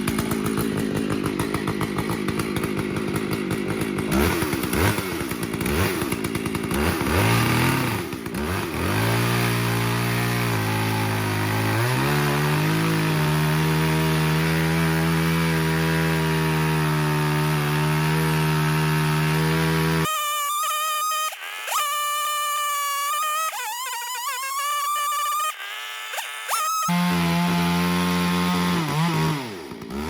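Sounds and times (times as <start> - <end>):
chainsaw engine running: 0.0 - 30.0.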